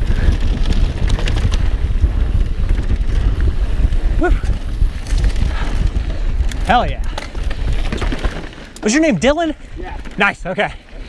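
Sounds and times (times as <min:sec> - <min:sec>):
bike rolling over dirt trail: 0:00.0 - 0:11.0
wind buffeting microphone: 0:00.0 - 0:11.0.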